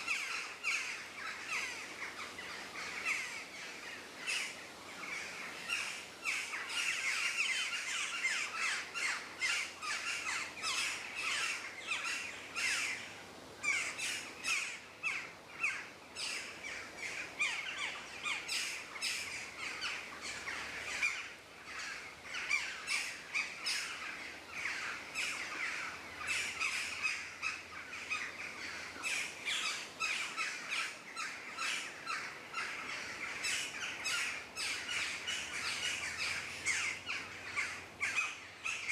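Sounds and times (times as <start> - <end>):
bird chorus chirping: 0.0 - 38.9.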